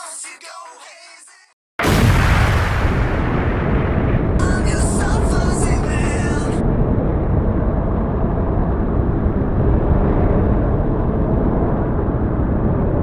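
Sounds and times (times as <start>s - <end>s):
loud steady rumbling: 1.8s - 13.0s.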